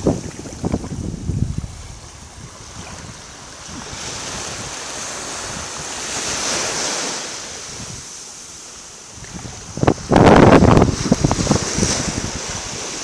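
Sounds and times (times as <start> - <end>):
wind buffeting the microphone: 0.0 - 8.2, 8.8 - 13.0
surf breaking on a beach: 0.0 - 13.0.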